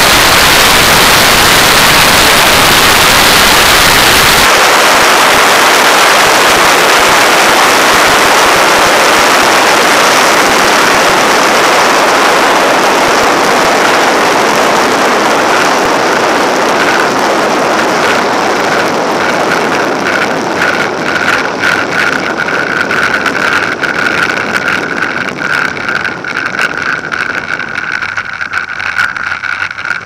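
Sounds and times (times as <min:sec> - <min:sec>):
steady aircraft engine tone: 0:00.0 - 0:07.9, 0:08.6 - 0:30.0
wind and rolling noise: 0:00.0 - 0:30.0.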